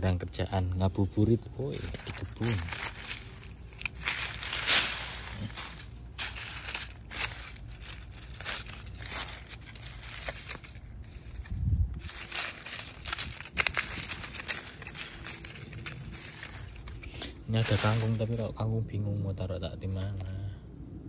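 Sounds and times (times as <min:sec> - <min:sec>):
dry leaves and soil rustling: 0:00.9 - 0:20.5.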